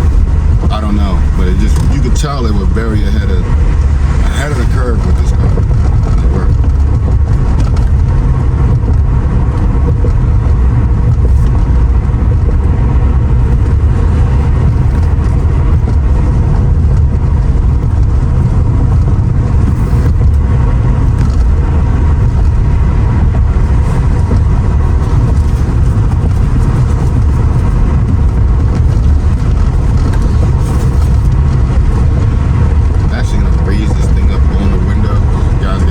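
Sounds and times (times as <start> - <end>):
road noise inside car: 0.0 - 35.9
wind through open car window: 0.0 - 35.9.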